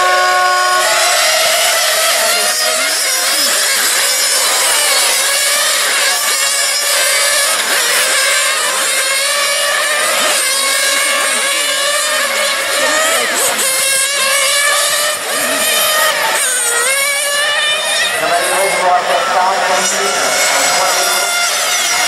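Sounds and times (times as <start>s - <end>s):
small model car engines revving: 0.0s - 22.0s.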